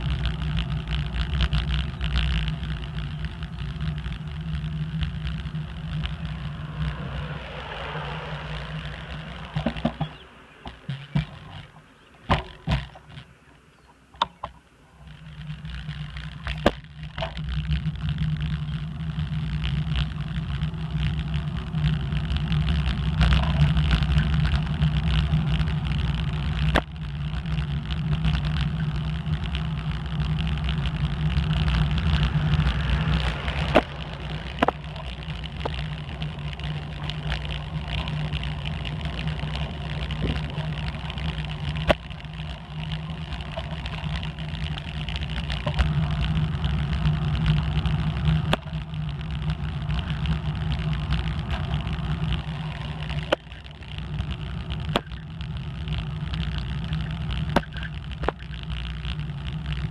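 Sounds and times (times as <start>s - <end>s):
bicycle rumbling on road: 0.0s - 59.9s.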